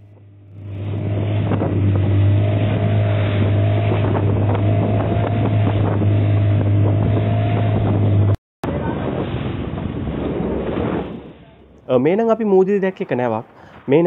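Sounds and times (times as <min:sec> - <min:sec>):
outboard motor droning: 0:00.0 - 0:11.9
wind buffeting microphone: 0:00.1 - 0:13.1
water rushing past hull: 0:00.4 - 0:12.8.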